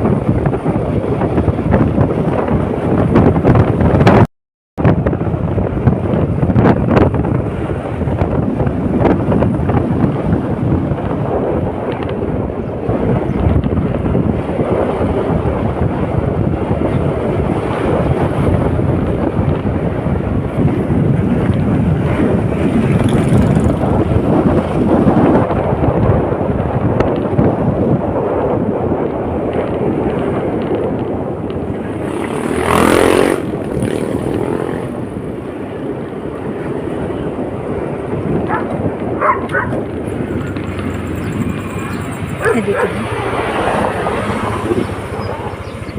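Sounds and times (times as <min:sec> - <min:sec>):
motorcycle riding: 0:00.0 - 0:04.2, 0:04.8 - 0:45.9
wind noise on microphone: 0:00.0 - 0:45.9.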